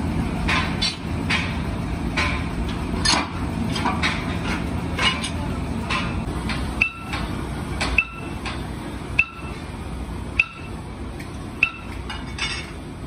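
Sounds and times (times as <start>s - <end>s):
low workshop rumble: 0.0s - 13.0s.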